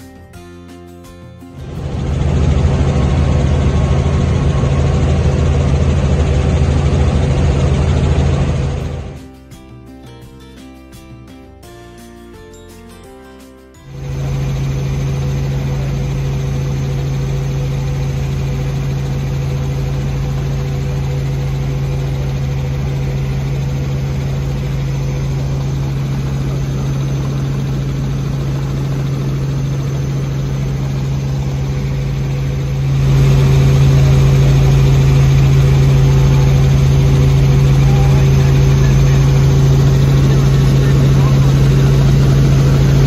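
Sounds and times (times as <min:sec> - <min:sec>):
helicopter engine and rotor drone: 0:00.1 - 0:43.0.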